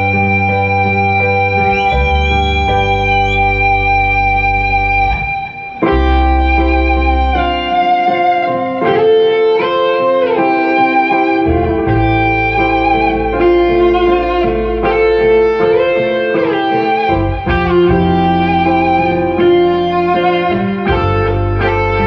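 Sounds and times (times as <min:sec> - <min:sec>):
bass notes: 0:00.0 - 0:08.8, 0:11.5 - 0:15.9, 0:17.1 - 0:22.0
keyboard chords: 0:00.0 - 0:22.0
lead electric guitar melody: 0:00.0 - 0:22.0.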